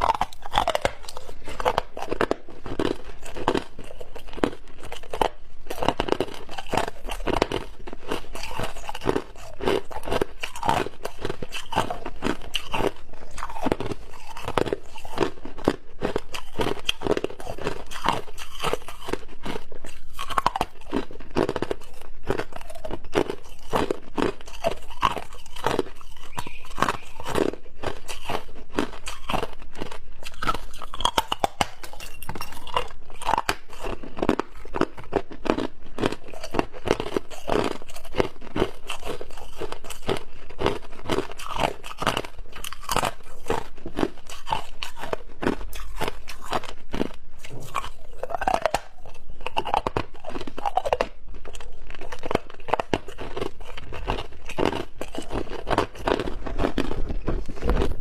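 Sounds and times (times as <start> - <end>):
ice being crunched and chewed: 0.0 - 58.0.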